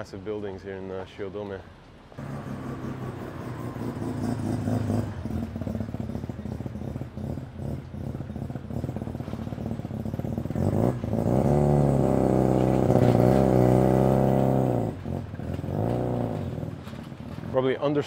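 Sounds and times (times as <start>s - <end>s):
rotary engine burbling and revving: 2.2s - 18.0s.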